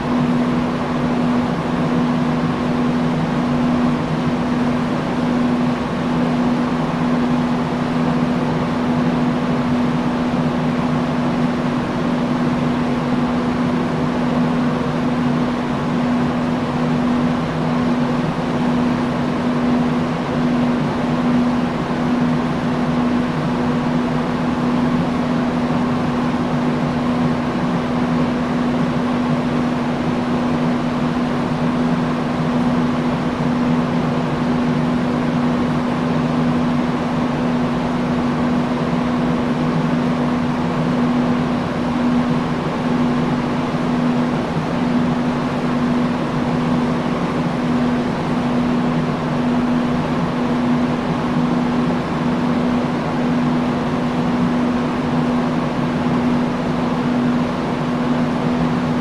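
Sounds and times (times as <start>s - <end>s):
industrial fan running: 0.0s - 59.0s.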